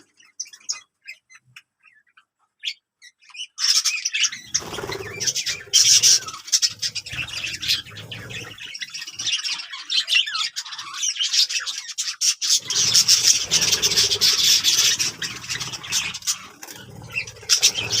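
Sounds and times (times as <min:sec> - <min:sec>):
birds chattering and squawking: 0:00.0 - 0:18.0.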